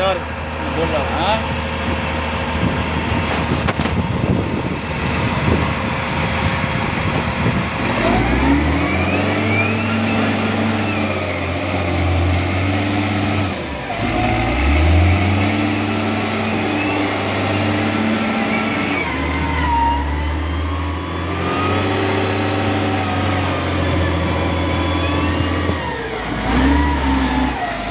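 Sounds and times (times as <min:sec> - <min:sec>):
loader diesel engine revving: 0:00.0 - 0:27.9.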